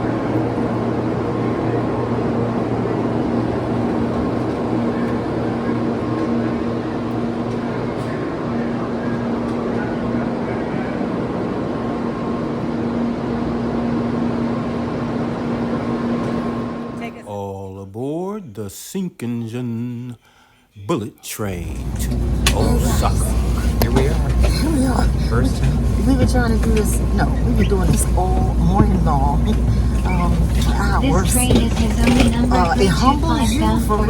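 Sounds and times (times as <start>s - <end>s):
train rushing: 0.0s - 17.2s, 21.7s - 34.0s.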